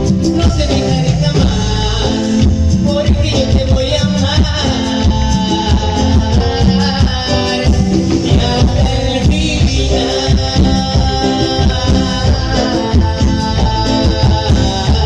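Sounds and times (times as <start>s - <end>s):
bass-heavy beat: 0.0s - 15.0s
latin dance music: 0.0s - 15.0s
person singing: 0.0s - 15.0s.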